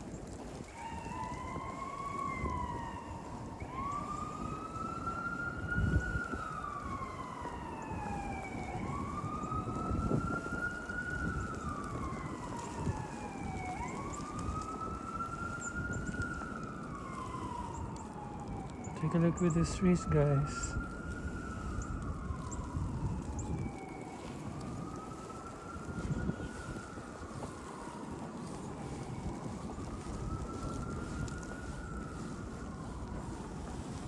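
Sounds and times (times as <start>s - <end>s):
emergency siren wailing: 0.0s - 34.0s
wind noise: 0.0s - 34.0s.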